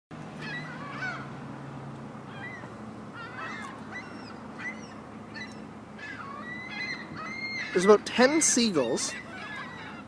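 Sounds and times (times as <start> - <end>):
gulls squabbling: 0.4 - 1.5, 2.1 - 10.0.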